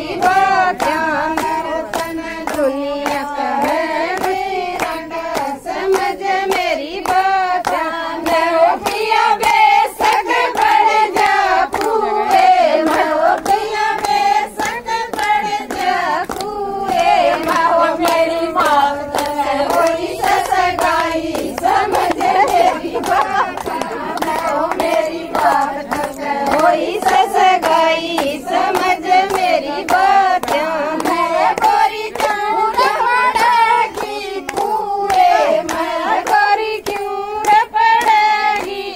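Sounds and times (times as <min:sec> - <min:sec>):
rhythmic hand clapping: 0:00.0 - 0:38.9
women singing folk song: 0:00.0 - 0:38.9.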